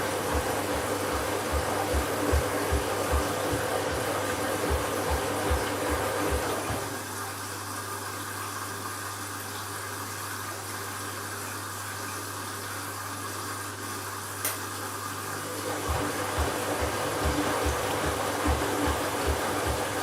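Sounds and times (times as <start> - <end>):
washing machine hum: 0.0 - 20.0
water running through machine: 0.0 - 20.0.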